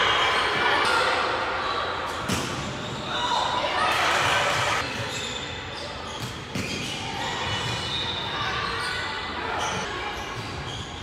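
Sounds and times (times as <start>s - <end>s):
court noise: 0.0s - 11.0s.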